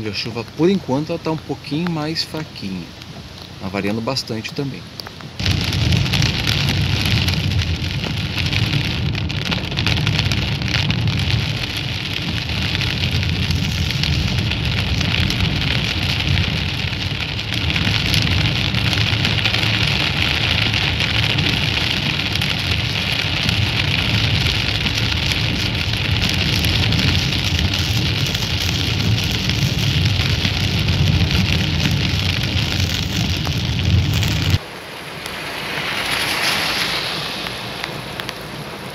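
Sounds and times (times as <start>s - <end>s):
rain pattering on car roof: 0.0s - 38.9s
low rumble: 5.3s - 38.9s.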